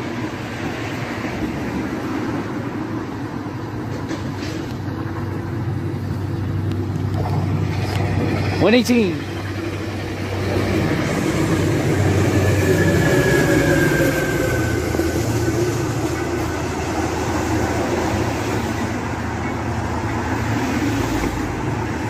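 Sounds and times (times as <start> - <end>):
diesel locomotive engine drone: 0.0 - 22.0
train cars rumbling: 0.0 - 22.0.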